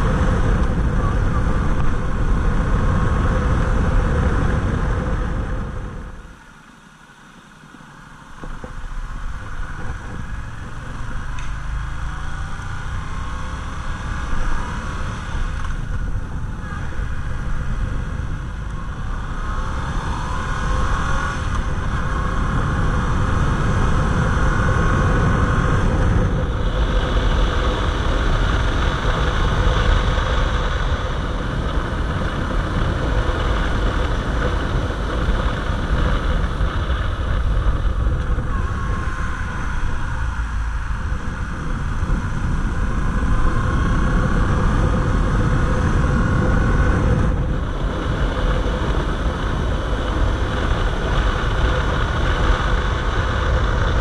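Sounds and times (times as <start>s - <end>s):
wind rumble on microphone: 0.0s - 6.7s, 7.3s - 54.0s
motorcycle engine running: 0.0s - 54.0s.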